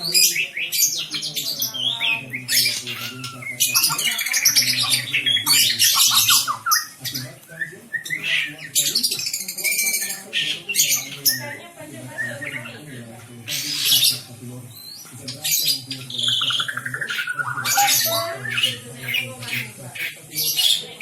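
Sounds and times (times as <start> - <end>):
bird singing whistles and squawks: 1.8 - 11.6, 13.5 - 21.0.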